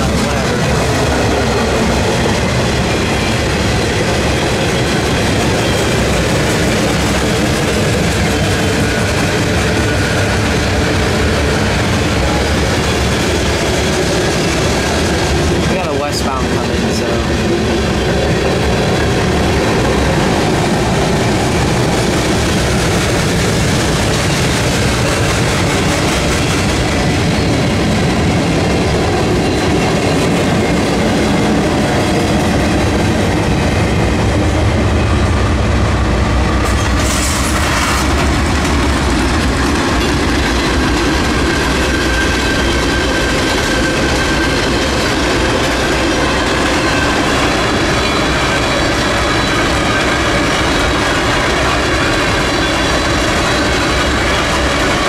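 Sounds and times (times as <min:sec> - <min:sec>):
freight train rolling past: 0:00.0 - 0:55.0
steel wheels on rails: 0:00.0 - 0:55.0.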